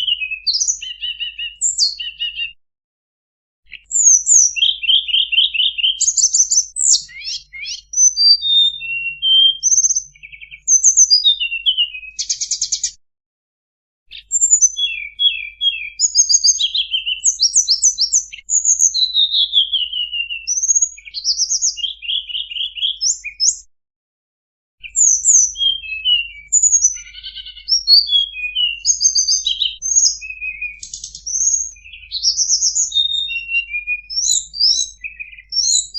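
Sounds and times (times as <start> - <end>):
bird call lure chirps and trills: 0.0 - 2.6, 3.7 - 13.0, 14.1 - 23.6, 24.8 - 35.9.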